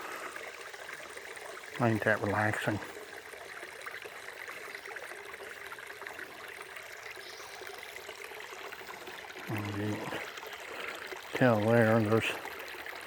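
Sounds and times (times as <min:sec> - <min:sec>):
creek babbling: 0:00.0 - 0:13.0.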